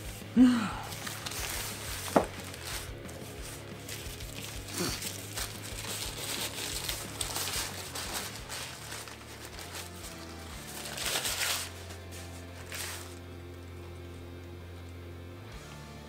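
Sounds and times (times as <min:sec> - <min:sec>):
paper wrappers crinkling: 0:00.0 - 0:14.2.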